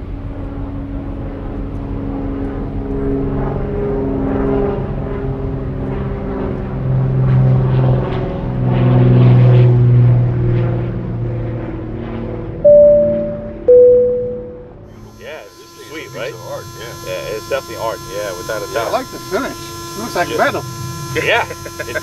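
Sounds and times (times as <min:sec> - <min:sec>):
propeller plane engine at takeoff: 0:00.0 - 0:22.0.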